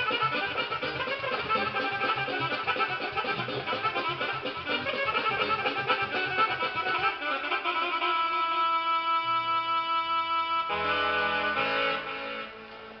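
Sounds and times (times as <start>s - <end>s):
electronic keyboard with violin sound: 0.0s - 13.0s.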